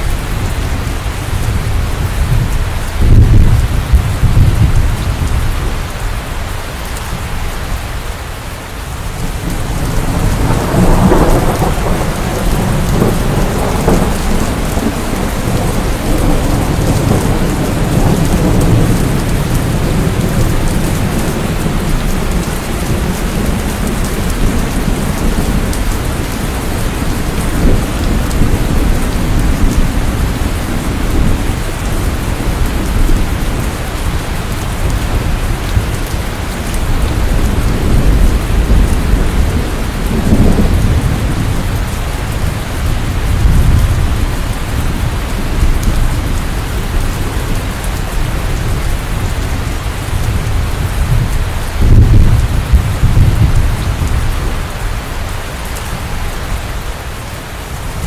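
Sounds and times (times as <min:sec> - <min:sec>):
thunder rumbling: 0:00.0 - 0:06.2, 0:08.9 - 0:58.0
steady rain: 0:00.0 - 0:58.0.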